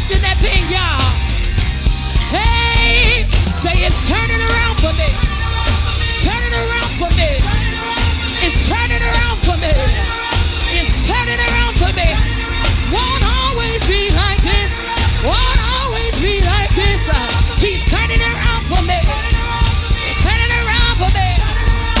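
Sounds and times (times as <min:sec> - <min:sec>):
full band with drums and bass: 0:00.0 - 0:22.0
wordless melismatic singing: 0:00.0 - 0:22.0.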